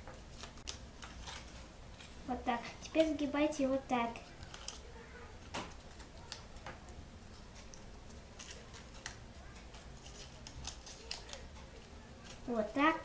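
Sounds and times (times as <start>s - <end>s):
paper being folded and creased: 0.0s - 6.6s, 7.3s - 13.0s.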